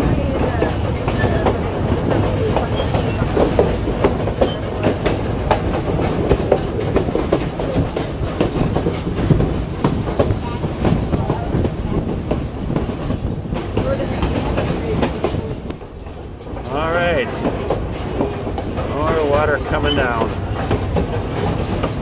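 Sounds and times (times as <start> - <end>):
train rumbling on track: 0.0 - 22.0
wheels clicking and rattling: 0.0 - 22.0.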